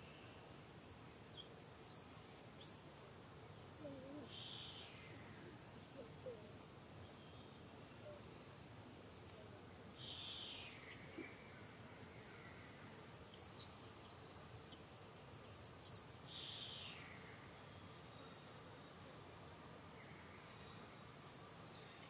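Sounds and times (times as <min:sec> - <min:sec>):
insect buzzing: 0:00.0 - 0:22.0.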